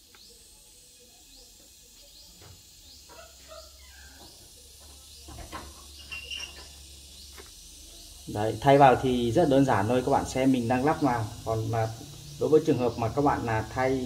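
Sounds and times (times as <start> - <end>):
high rising chirp: 0.2 - 14.0.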